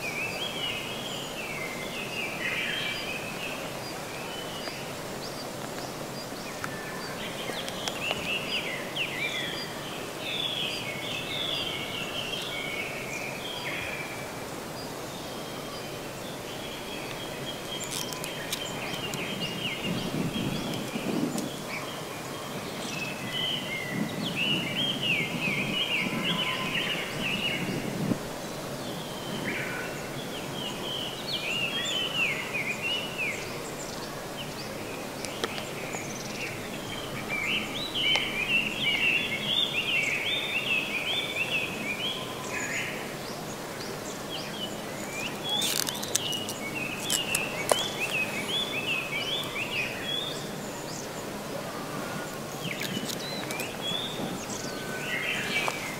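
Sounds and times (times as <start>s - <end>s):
outdoor background hiss: 0.0s - 55.9s
songbirds twittering: 0.0s - 55.9s.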